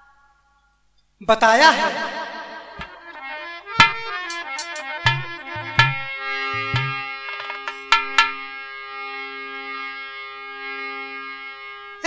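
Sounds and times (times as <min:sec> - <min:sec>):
devotional instrumental melody: 0:01.8 - 0:12.0.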